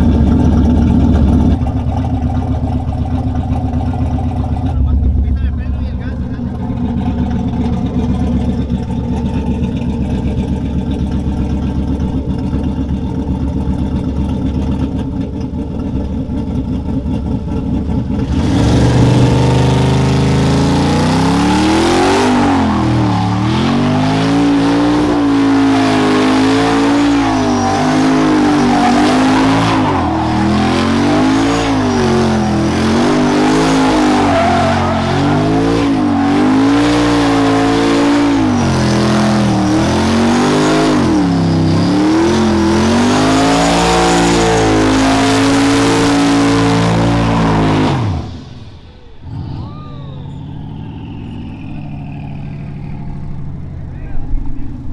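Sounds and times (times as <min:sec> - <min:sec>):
truck engine revving: 0:00.0 - 0:54.9.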